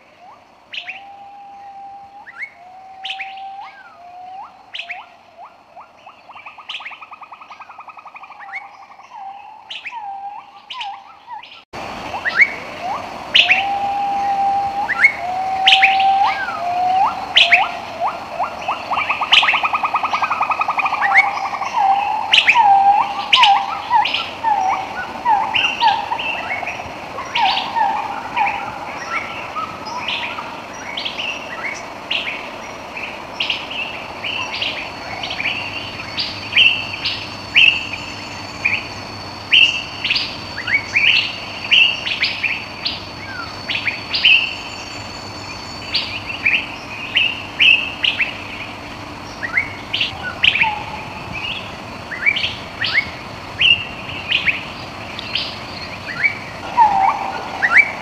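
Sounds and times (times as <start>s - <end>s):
steady hiss: 0.0s - 58.0s
birds chirping and whistling: 0.2s - 58.0s.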